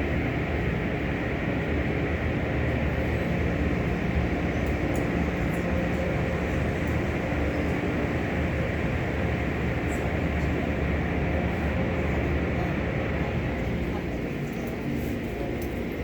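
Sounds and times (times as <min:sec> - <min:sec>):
car wash machinery running: 0:00.0 - 0:16.0.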